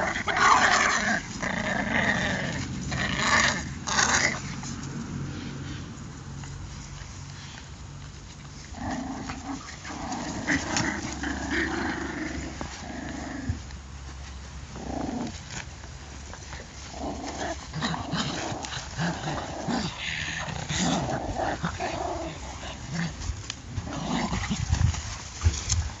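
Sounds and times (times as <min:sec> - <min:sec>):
puppies play growling and yapping: 0:00.0 - 0:26.0.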